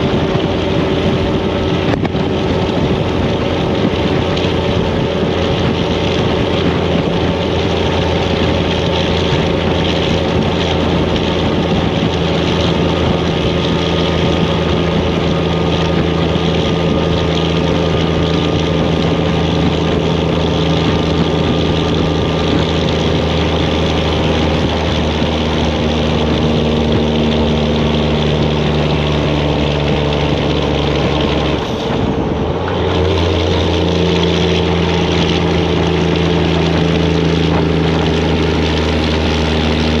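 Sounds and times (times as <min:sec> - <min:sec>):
truck diesel engine running: 0:00.0 - 0:40.0.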